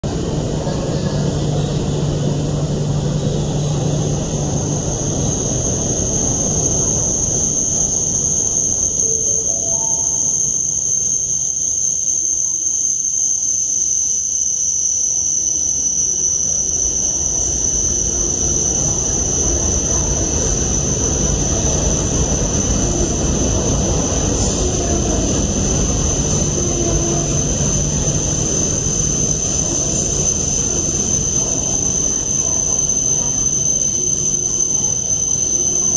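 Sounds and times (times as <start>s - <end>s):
train running rumble: 0.0s - 12.2s, 14.9s - 35.9s
high-pitched whine: 0.0s - 35.9s.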